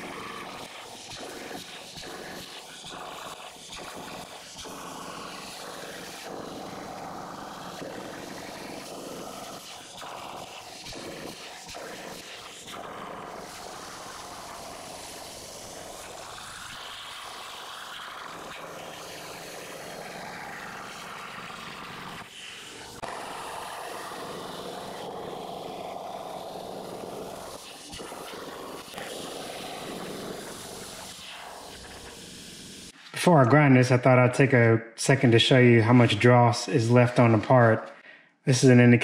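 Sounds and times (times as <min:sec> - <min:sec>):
plasma cutter hissing: 0:00.0 - 0:33.0.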